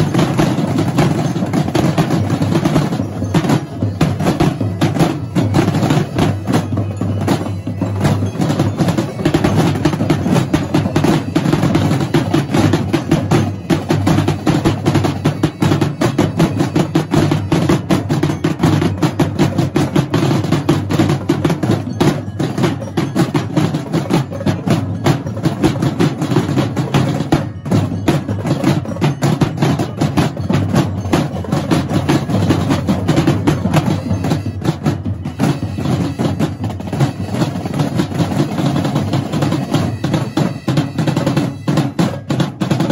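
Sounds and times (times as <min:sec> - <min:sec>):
marching drumline playing: 0:00.0 - 0:42.9.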